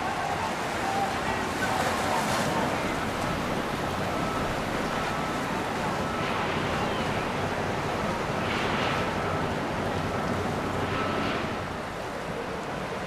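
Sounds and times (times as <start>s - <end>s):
rushing water: 0.0s - 13.0s
wind: 0.0s - 13.0s.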